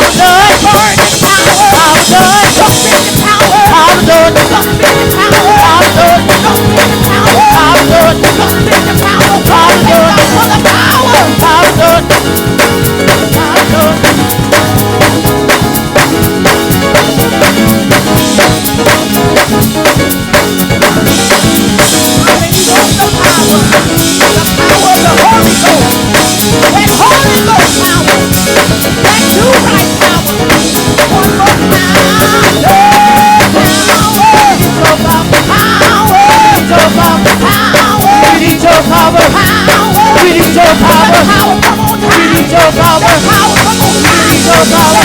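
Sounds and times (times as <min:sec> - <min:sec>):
voices singing long notes: 0:00.0 - 0:16.0, 0:20.8 - 0:45.0
drum kit beat: 0:00.0 - 0:45.0
gospel band playing: 0:00.0 - 0:45.0.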